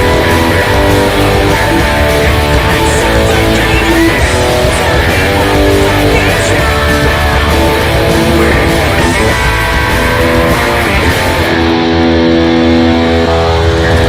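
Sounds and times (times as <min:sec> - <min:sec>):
electric guitar playing rock: 0:00.0 - 0:14.0.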